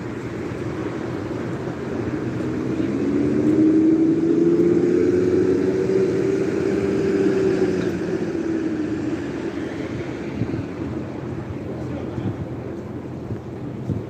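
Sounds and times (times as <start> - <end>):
vehicle passing: 0.0 - 11.6
steady traffic noise: 0.0 - 14.0.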